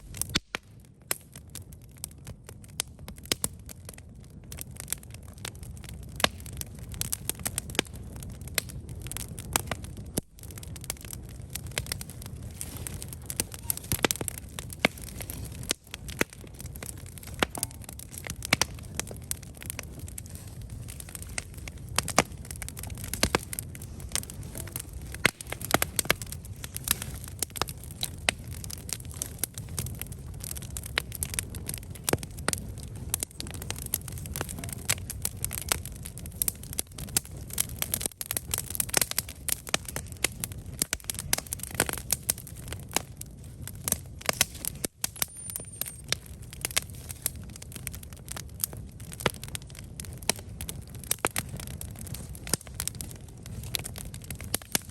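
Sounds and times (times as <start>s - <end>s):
campfire crackling and popping: 0.0s - 54.9s
low rumble of flames: 0.0s - 54.9s.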